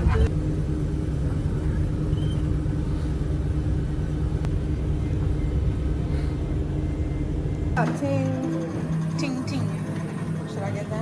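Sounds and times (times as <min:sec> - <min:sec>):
engine hum: 0:00.0 - 0:11.0
vehicle cabin rumble: 0:00.0 - 0:11.0.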